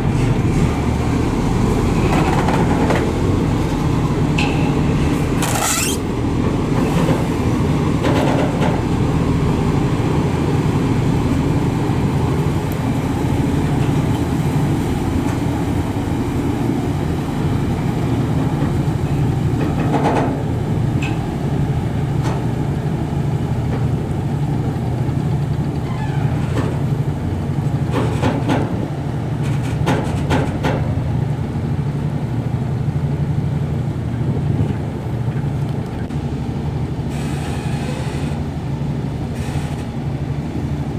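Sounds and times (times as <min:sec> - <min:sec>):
ferry diesel engines running: 0:00.0 - 0:40.9.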